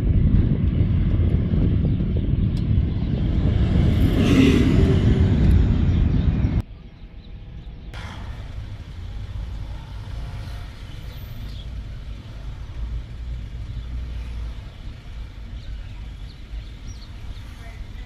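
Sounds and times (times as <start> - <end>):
traffic rumble inside car: 0.0 - 18.0.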